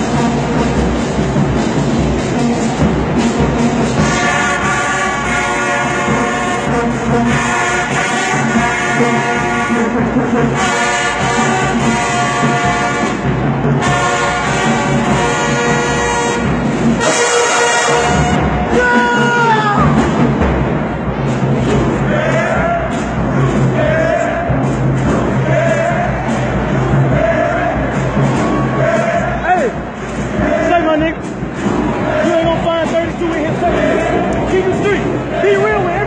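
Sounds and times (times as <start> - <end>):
marching band playing: 0.0 - 36.0.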